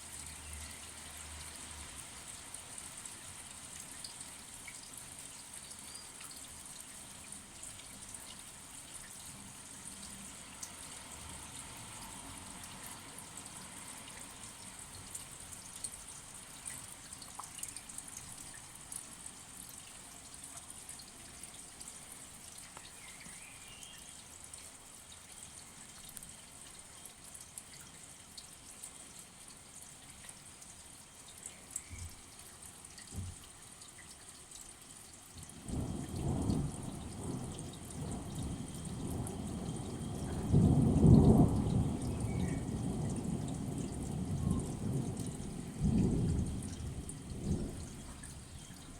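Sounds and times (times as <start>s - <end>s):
steady rain: 0.0s - 48.9s
drops dripping and ticking: 2.3s - 48.9s.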